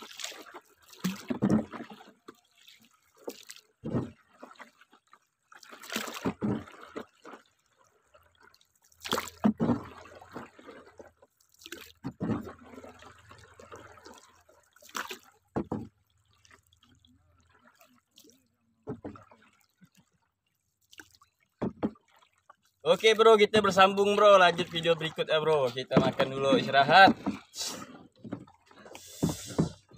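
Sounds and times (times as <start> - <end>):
paddle splashing in water: 0.0 - 29.9
water trickling and dripping: 0.0 - 29.9.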